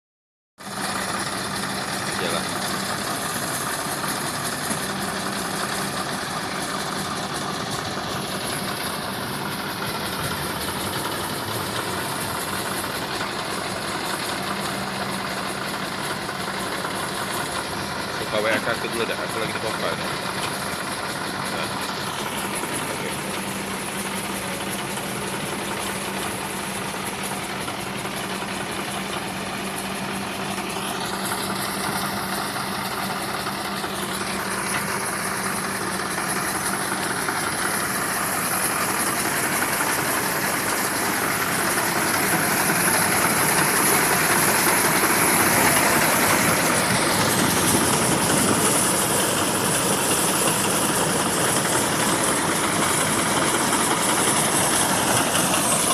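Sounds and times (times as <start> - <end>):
car engine running steadily: 0.6 - 55.9.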